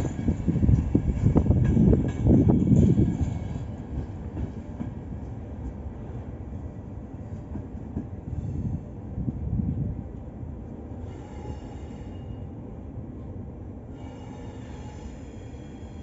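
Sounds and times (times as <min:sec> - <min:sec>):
train wheels rumbling and clacking: 0:00.0 - 0:16.0.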